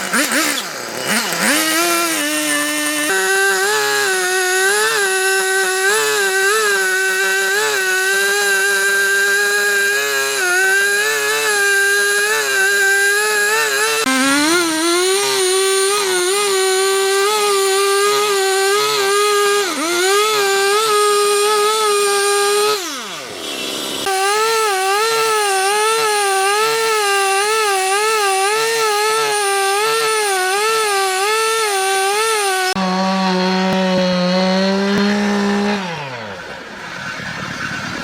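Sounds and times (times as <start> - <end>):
power tool cutting wood: 0.0 - 38.0.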